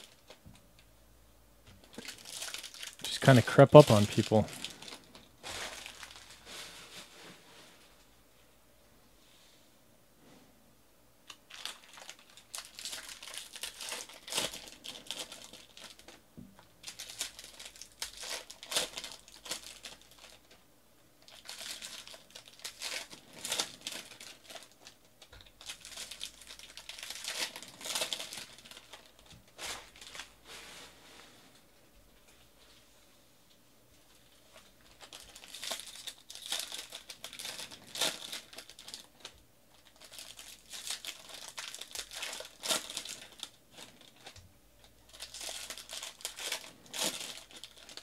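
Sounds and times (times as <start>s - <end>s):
wrappers crinkling and tearing: 0.0s - 0.4s, 1.8s - 7.1s, 11.3s - 20.6s, 21.2s - 30.7s, 34.1s - 48.0s.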